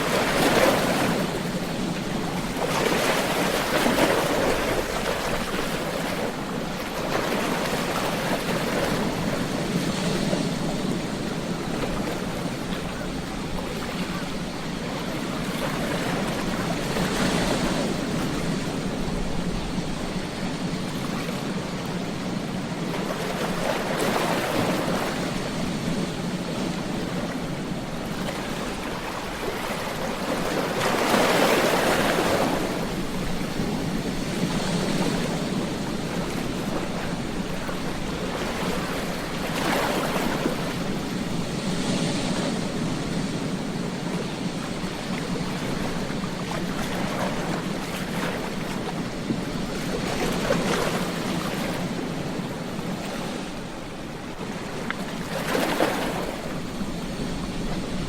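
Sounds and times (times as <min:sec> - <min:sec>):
surf washing on beach: 0:00.0 - 0:58.0
waves crashing: 0:00.0 - 0:58.0.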